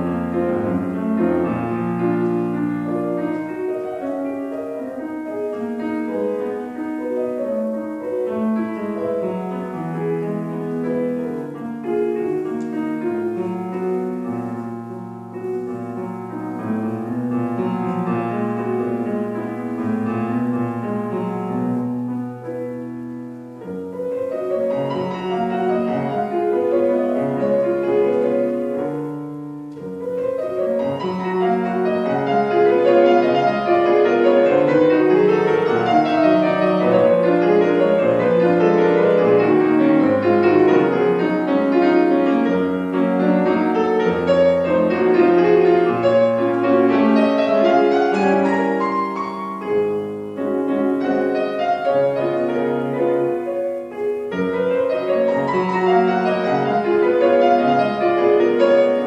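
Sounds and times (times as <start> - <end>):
solo grand piano piece: 0.0 - 59.0.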